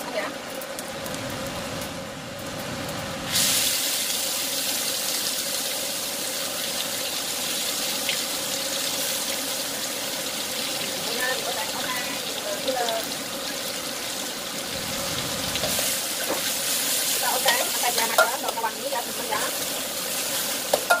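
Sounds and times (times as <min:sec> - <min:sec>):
paste sizzling in hot oil: 0:02.4 - 0:21.0.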